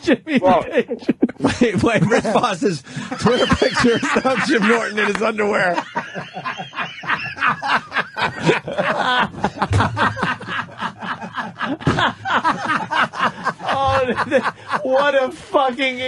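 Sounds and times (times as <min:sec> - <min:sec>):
men laughing: 0:00.0 - 0:15.5.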